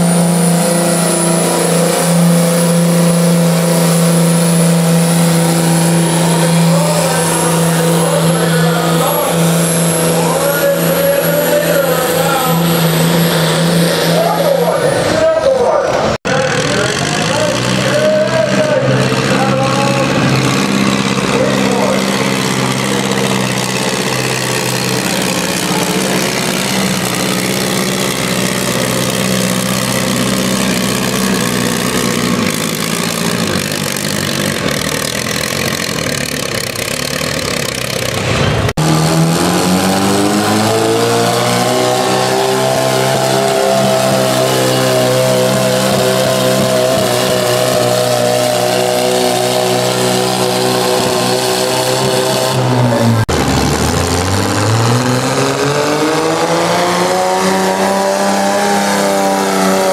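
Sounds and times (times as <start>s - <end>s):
tractor engine revving under load: 0.0s - 59.9s
tractor engine running steadily: 0.0s - 59.9s.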